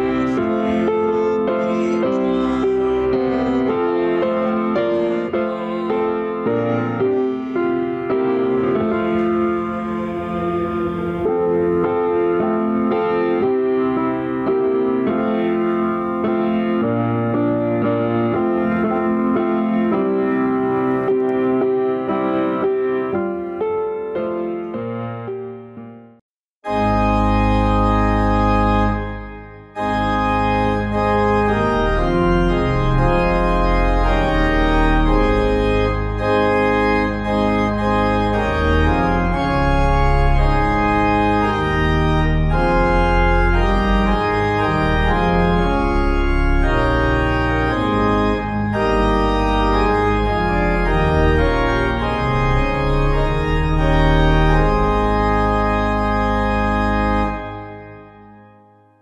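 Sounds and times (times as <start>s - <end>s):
organ playing slow chords: 0.0s - 25.8s, 26.6s - 58.8s.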